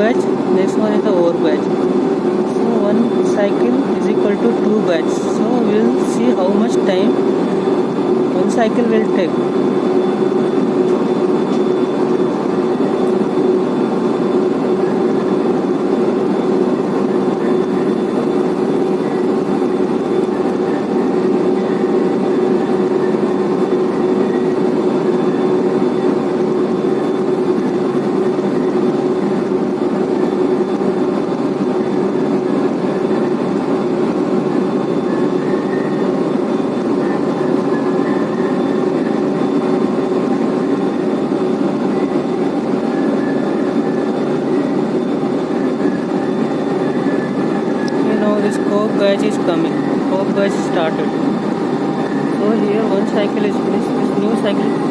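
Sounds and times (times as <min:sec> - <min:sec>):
conveyor mechanical whir: 0:00.0 - 0:54.9.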